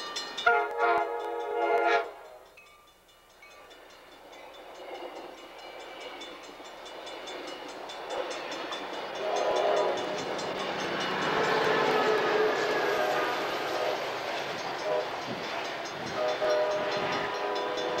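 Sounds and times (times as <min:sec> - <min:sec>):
diesel locomotive passing: 0:00.0 - 0:18.0
train passing close by: 0:00.0 - 0:18.0
wheels clicking on rails: 0:00.0 - 0:18.0.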